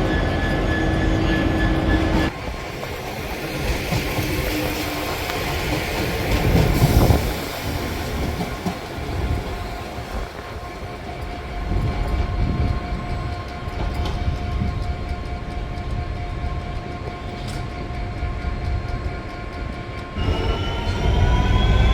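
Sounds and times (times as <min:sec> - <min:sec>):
train rumble and wheel clatter: 0:00.0 - 0:21.9.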